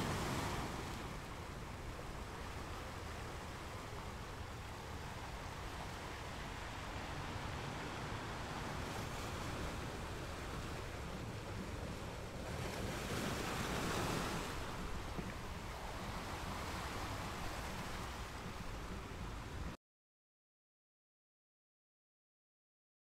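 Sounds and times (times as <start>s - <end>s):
steady rushing outdoor noise: 0.0s - 19.8s.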